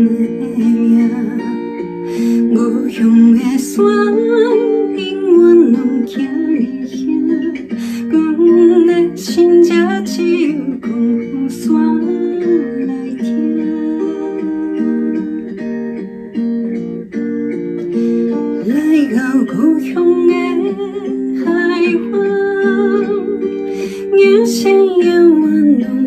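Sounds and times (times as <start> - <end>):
woman singing a slow ballad: 0.0 - 16.0, 18.3 - 26.0
plucked-string instrumental backing: 0.0 - 26.0.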